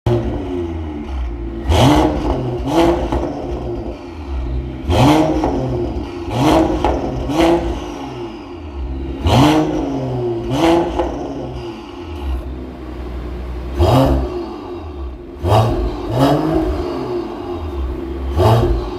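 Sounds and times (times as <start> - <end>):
car exhaust idling and revving: 0.0 - 18.9.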